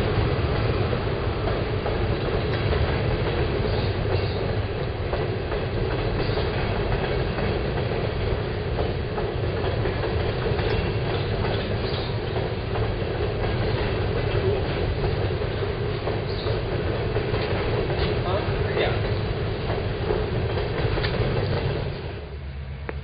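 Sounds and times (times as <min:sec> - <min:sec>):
wheels clicking on rail joints: 0:00.0 - 0:22.3
train wheels rumbling on rails: 0:00.0 - 0:23.0.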